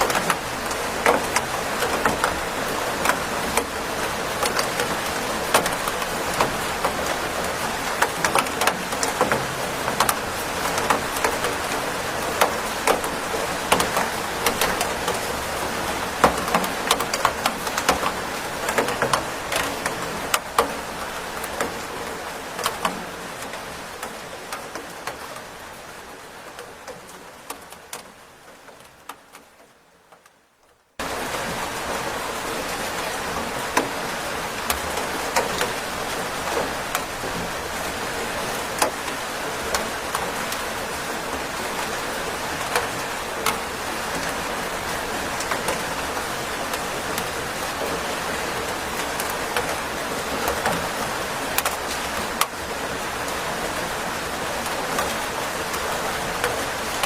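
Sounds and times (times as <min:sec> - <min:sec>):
raindrops tapping a surface: 0:00.0 - 0:57.0
steady rain falling: 0:00.0 - 0:57.0.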